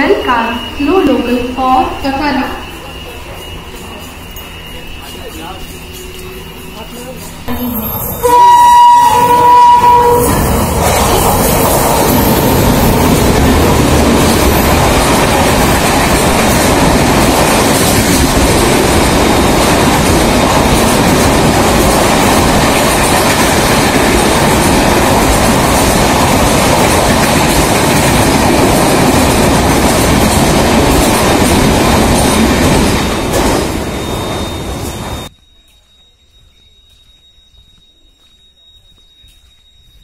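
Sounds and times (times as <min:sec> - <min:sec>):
train wheels rumbling on rails: 0:00.0 - 0:35.3.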